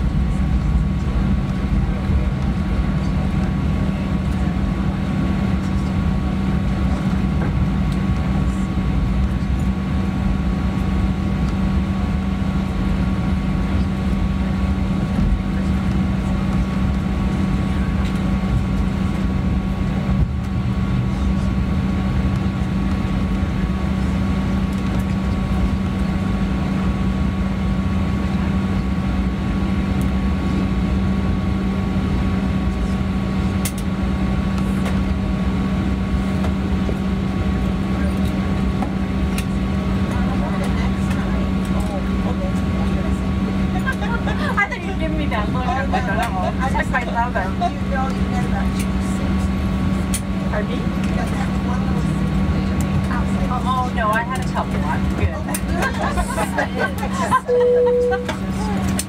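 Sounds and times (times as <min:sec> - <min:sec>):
air conditioning hum: 0:00.0 - 0:59.0
airplane cabin rumble: 0:00.0 - 0:59.0.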